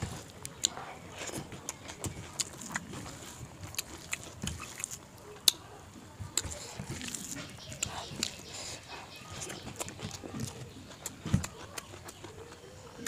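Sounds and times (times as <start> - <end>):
person chewing with mouth clicks: 0.4 - 5.6, 6.4 - 12.6.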